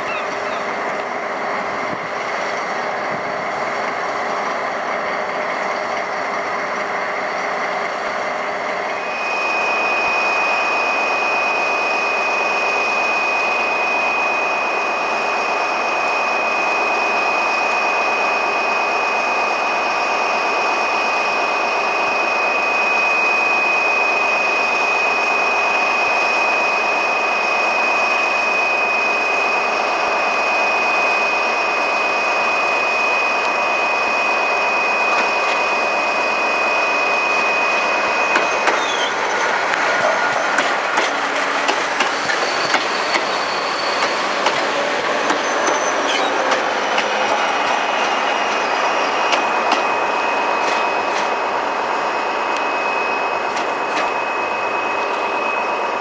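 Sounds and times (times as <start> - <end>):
high steady whine: 0.0 - 56.0
railcar engine running: 0.0 - 56.0.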